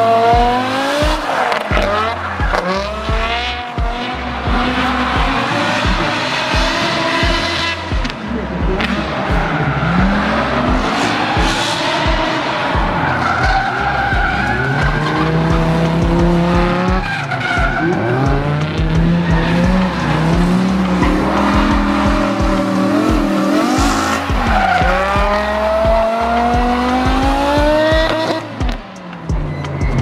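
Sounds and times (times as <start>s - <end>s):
tyre squeal and skidding: 0.0s - 7.6s, 9.2s - 28.5s
car engine revving: 0.0s - 30.0s
music with a steady beat: 0.0s - 30.0s.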